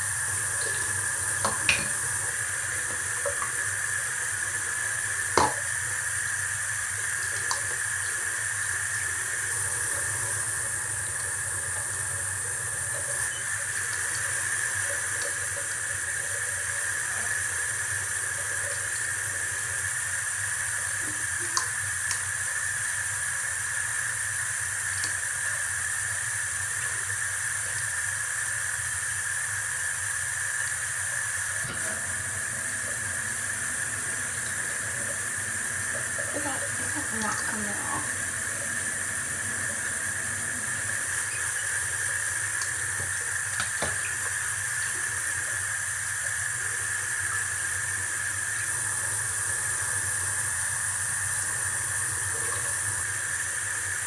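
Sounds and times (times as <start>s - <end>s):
tap water running into sink: 0.0s - 54.0s.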